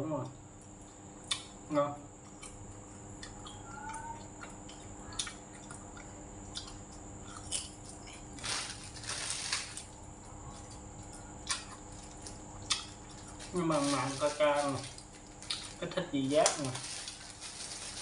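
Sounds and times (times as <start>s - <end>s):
crunchy biting and chewing: 0.6s - 3.7s, 4.3s - 15.8s.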